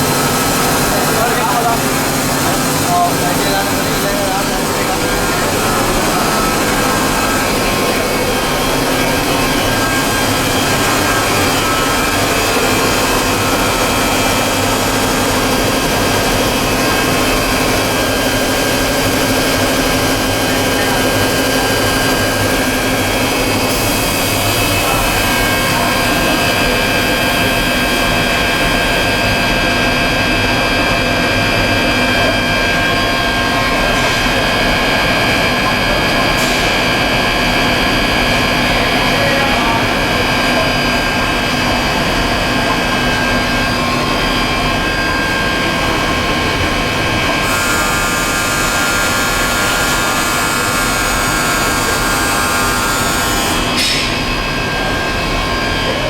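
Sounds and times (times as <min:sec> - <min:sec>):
constant drone of motors: 0:00.0 - 0:56.0
steady machine whining tones: 0:00.0 - 0:56.0.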